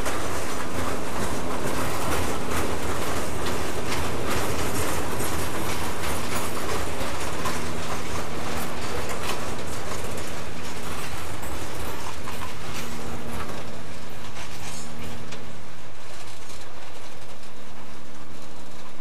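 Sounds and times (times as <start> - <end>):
wheels clattering over rail joints: 0.0 - 19.0.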